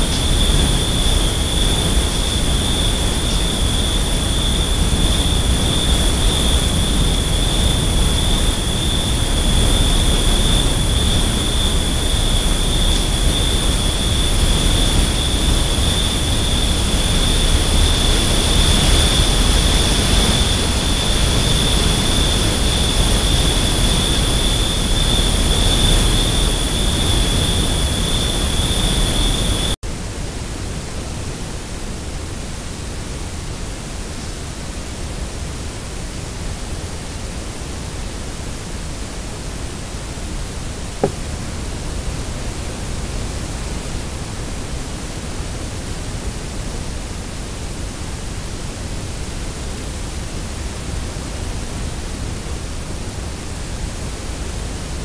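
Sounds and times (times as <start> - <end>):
microphone hiss: 0.0 - 55.0.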